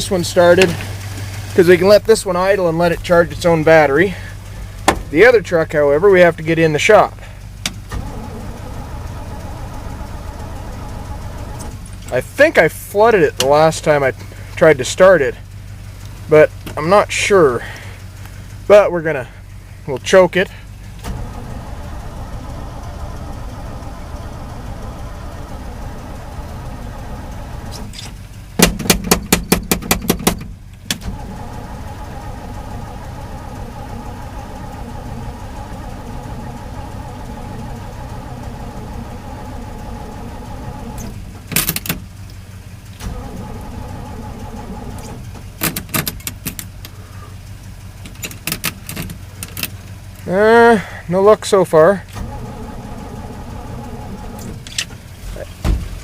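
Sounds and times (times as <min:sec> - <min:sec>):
engine idling: 0:00.0 - 0:56.0
truck starter cranking engine: 0:00.0 - 0:56.0.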